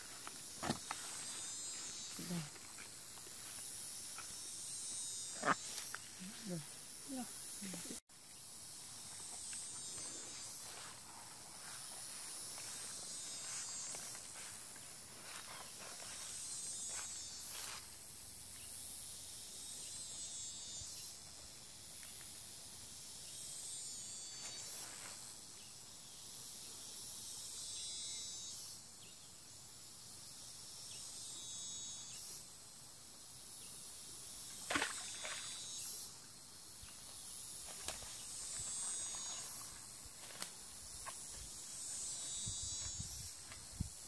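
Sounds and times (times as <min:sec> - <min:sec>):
high-pitched insect chorus buzzing: 0:00.0 - 0:44.0.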